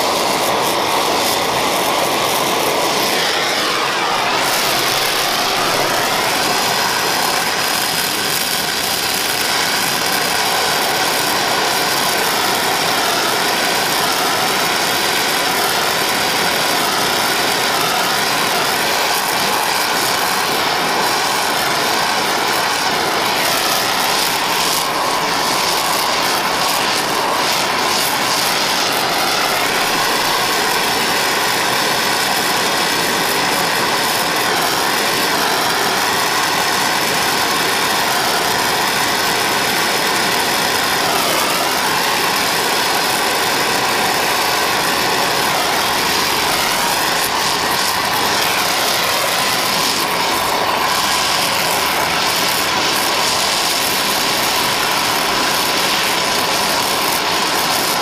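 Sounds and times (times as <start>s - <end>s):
torch flame hissing: 0.0s - 58.0s.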